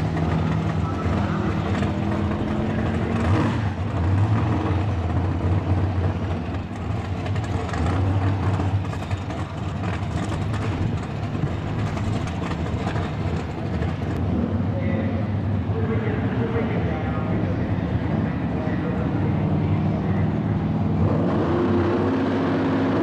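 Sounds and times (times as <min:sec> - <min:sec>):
car engine idling deep rumble: 0:00.0 - 0:21.0.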